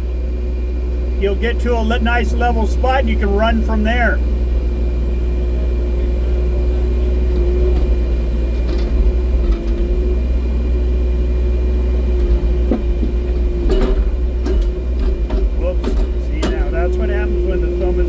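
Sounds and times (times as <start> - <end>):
excavator engine rumbling: 0.0 - 18.0.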